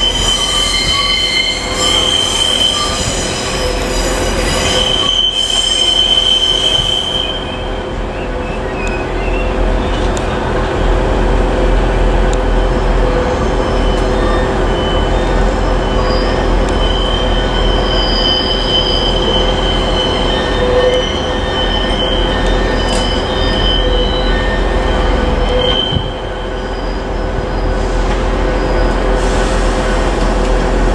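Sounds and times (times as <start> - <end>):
train wheels squealing on rails: 0.0 - 10.6, 12.2 - 30.8
train running rumble: 0.0 - 30.9.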